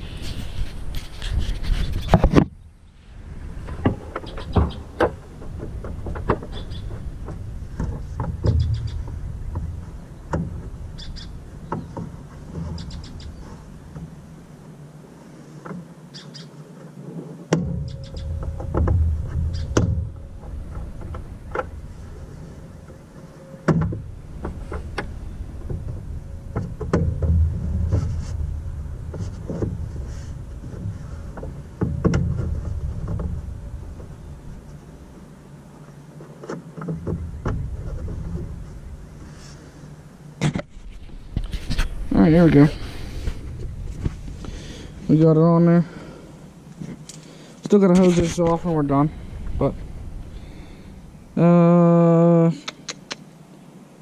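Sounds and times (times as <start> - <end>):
wind on microphone: 0.0 - 14.7, 17.6 - 35.4, 37.0 - 47.1, 47.9 - 52.1.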